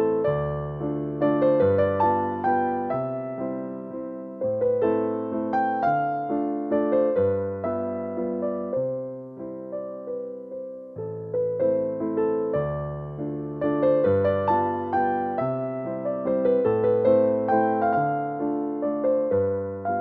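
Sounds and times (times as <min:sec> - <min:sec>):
gentle piano piece: 0:00.0 - 0:20.0.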